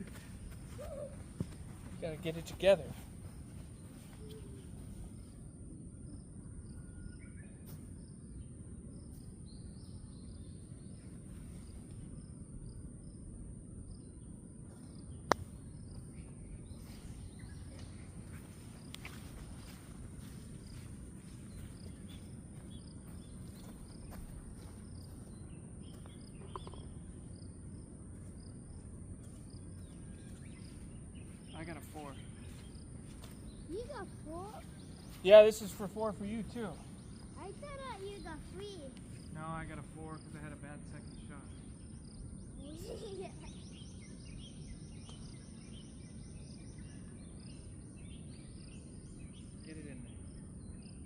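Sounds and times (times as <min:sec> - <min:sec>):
birds chirping: 0:00.0 - 0:13.2, 0:13.9 - 0:51.0
insects trilling: 0:00.0 - 0:51.0.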